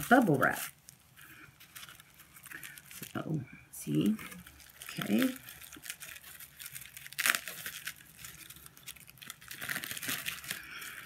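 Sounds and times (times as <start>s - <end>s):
bubble wrap crackling: 0.0s - 11.0s.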